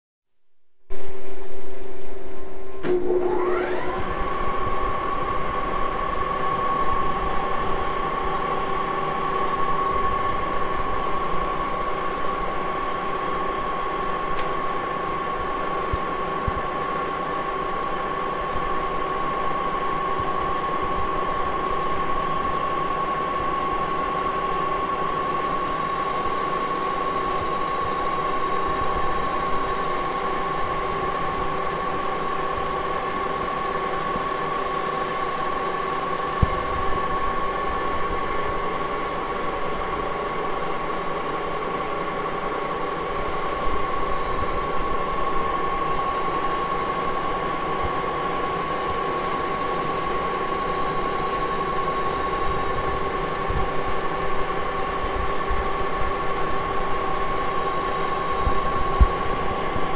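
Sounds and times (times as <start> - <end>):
machine spindle high whine: 1.8 - 59.9.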